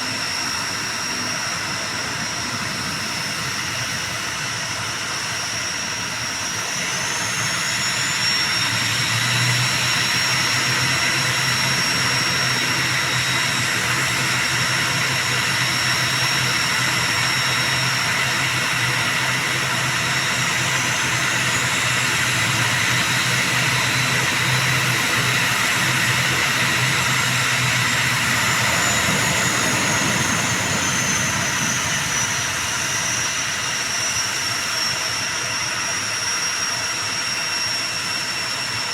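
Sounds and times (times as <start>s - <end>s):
turboprop engines whining: 0.0s - 38.9s.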